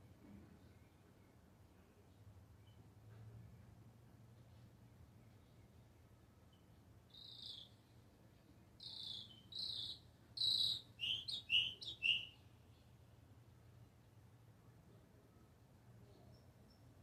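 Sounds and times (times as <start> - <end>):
songbird singing: 0.4 - 3.0, 4.3 - 17.0.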